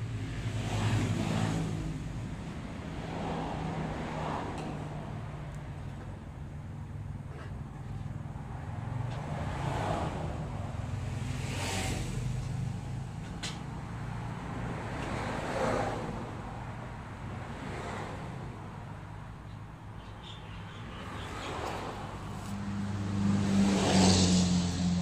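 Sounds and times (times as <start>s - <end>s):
road traffic rumble: 0.0s - 25.0s
vehicles passing: 0.0s - 25.0s.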